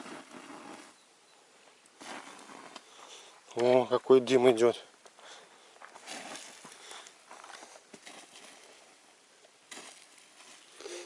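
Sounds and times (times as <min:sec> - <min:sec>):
wet embers hissing and crackling: 0:00.0 - 0:03.8, 0:05.0 - 0:11.0.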